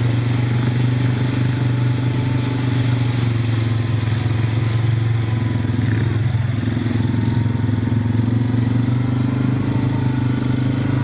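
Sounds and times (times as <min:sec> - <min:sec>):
atv engines droning: 0:00.0 - 0:11.0.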